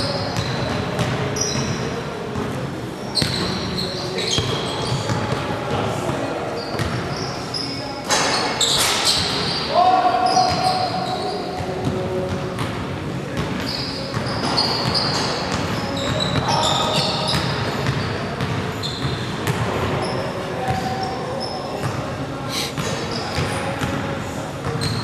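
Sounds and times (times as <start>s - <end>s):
sneakers squeaking: 0.0s - 25.0s.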